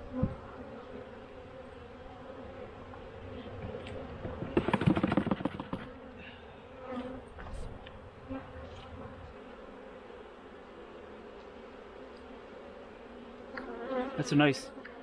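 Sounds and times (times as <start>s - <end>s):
bee buzzing past microphone: 0.0s - 15.0s
bees buzzing: 0.0s - 15.0s.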